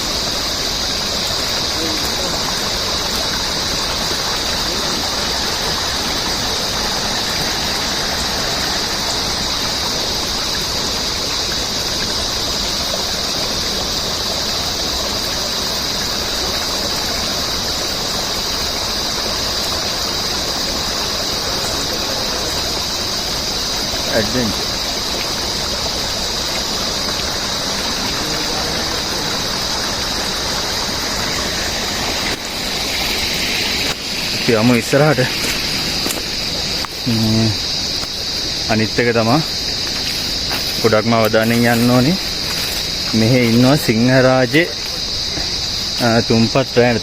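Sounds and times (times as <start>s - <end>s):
high-pitched insect drone: 0.0s - 47.0s
stream rushing: 0.0s - 47.0s.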